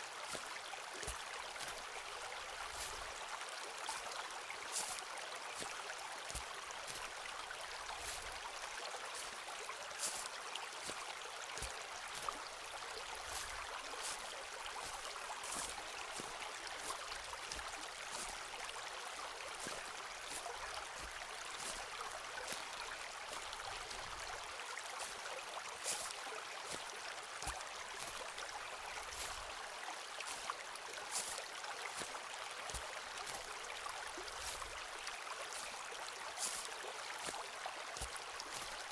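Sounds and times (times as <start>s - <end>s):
stream rushing: 0.0s - 38.9s
footsteps on leaves and twigs: 0.2s - 1.9s, 2.6s - 38.9s.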